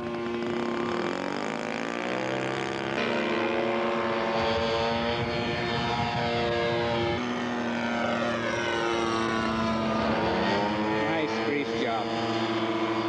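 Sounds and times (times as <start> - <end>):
model airplane engine and propeller: 0.0 - 13.0.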